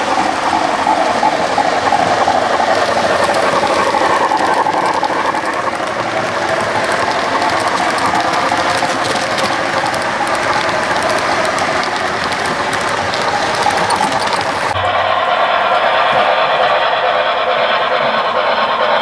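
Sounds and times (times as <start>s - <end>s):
wheels clicking over rail joints: 0.0s - 16.7s
model train cars rumbling: 0.0s - 19.0s.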